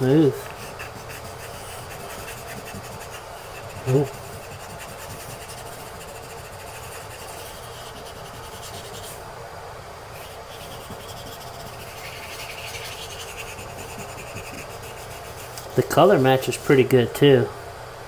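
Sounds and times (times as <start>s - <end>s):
sandpaper rubbing: 0.5s - 9.2s, 10.2s - 16.3s.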